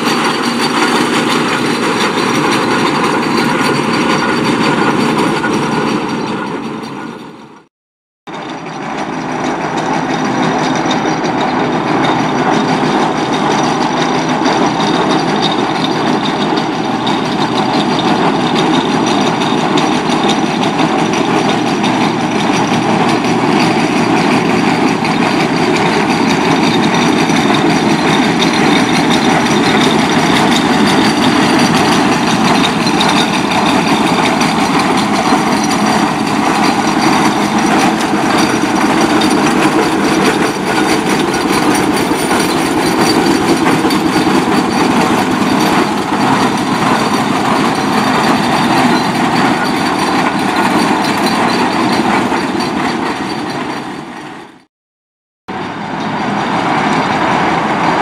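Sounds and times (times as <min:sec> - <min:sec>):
steam traction engine clatter: 0:00.0 - 0:07.7, 0:08.3 - 0:54.7, 0:55.5 - 0:58.0.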